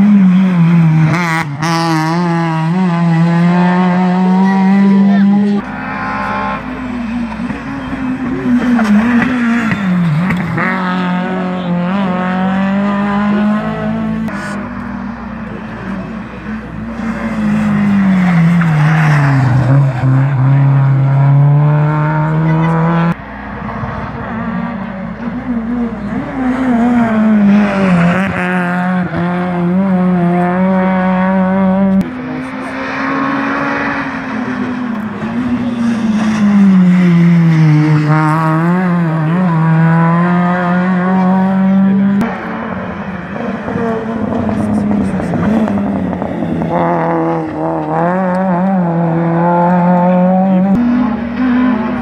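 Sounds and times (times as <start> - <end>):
rally car engine passing: 0.0 - 52.0.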